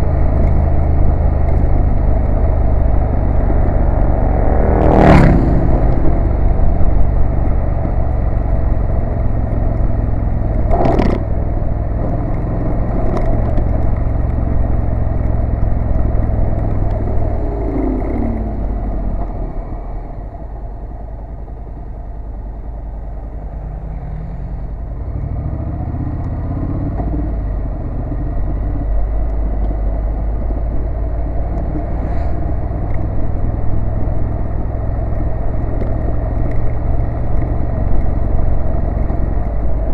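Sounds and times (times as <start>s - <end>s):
wind noise: 0.0s - 21.9s, 26.4s - 39.9s
motorcycle engine running: 0.0s - 39.9s.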